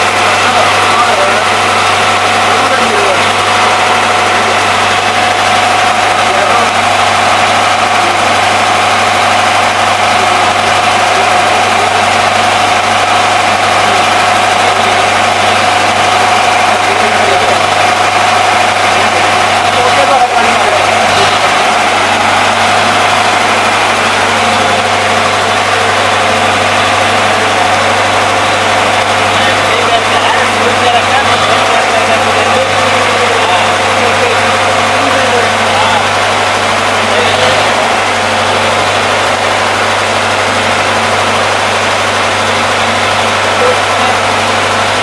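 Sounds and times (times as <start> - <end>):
engine generator droning: 0.0 - 45.0.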